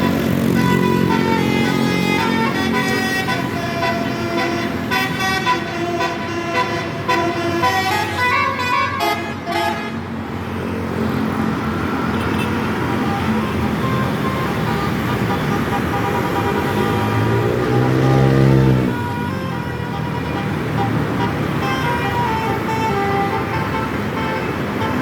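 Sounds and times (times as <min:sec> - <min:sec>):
bus air horns playing a tune: 0:00.0 - 0:10.4, 0:11.5 - 0:25.0
bus engine rumble: 0:00.0 - 0:25.0
traffic noise: 0:00.0 - 0:25.0.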